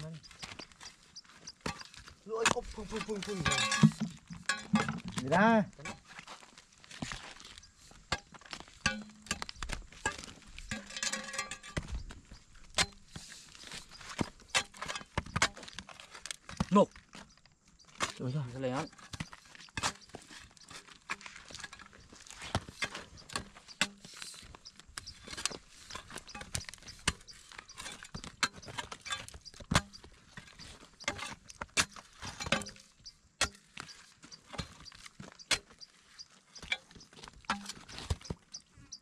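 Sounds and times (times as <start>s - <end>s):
metal spade chopping dry mud: 0.0s - 6.4s, 8.1s - 16.8s, 18.0s - 35.9s, 36.6s - 38.4s.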